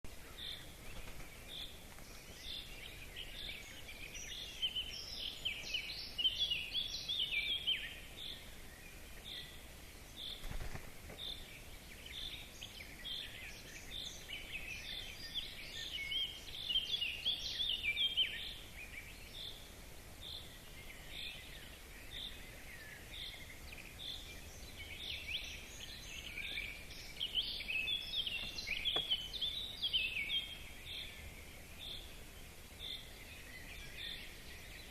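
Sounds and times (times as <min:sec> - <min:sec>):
birds twittering: 0:00.1 - 0:34.9.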